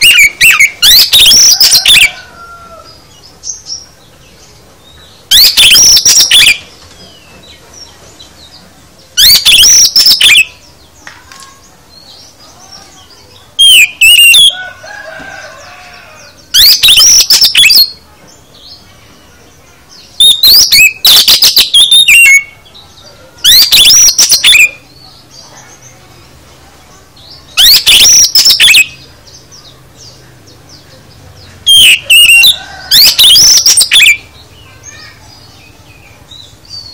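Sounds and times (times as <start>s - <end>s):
faint bird calls: 0.0s - 3.9s, 4.8s - 36.9s
bird singing varied phrases: 0.0s - 36.9s.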